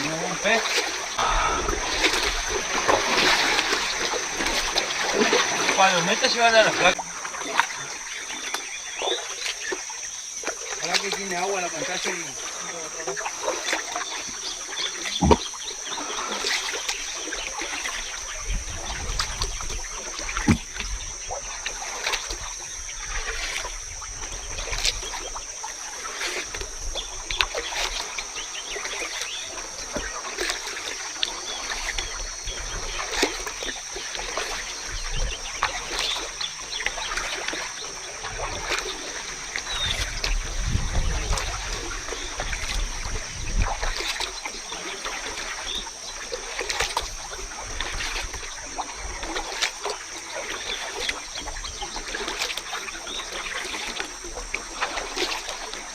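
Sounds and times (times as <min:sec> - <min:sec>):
water splashing and dripping: 0:00.0 - 0:55.9.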